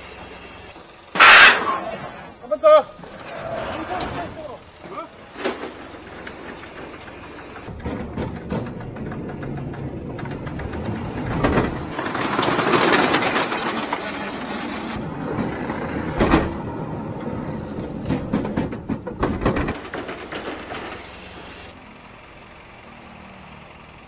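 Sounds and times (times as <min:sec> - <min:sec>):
lift machinery clattering: 0:00.0 - 0:21.7.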